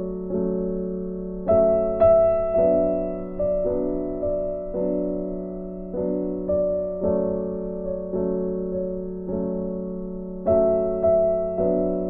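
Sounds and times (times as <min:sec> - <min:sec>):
piano notes: 0:00.0 - 0:12.0.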